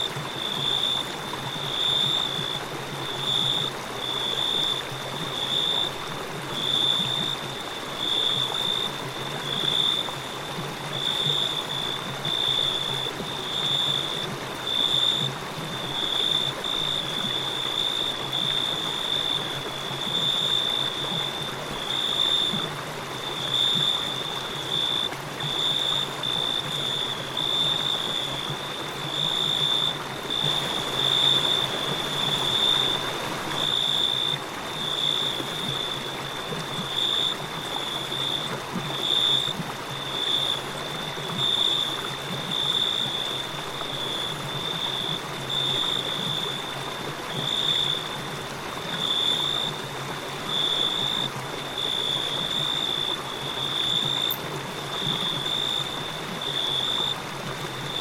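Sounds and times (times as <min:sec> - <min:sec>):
cricket chirping: 0:00.0 - 0:06.0, 0:06.6 - 0:58.0
river water running: 0:00.0 - 0:58.0.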